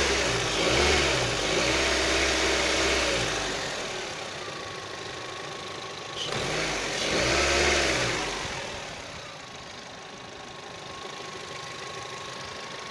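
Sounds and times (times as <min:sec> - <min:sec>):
engine idling and revving: 0:00.0 - 0:12.9.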